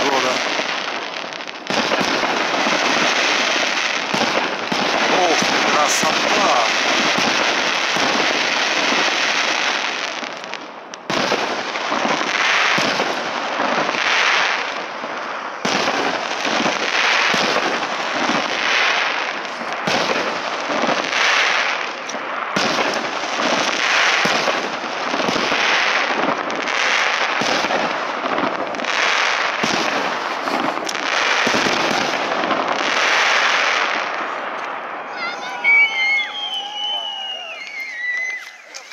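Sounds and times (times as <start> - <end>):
firework bangs: 0.0 - 38.9
fireworks crackling: 0.0 - 38.9.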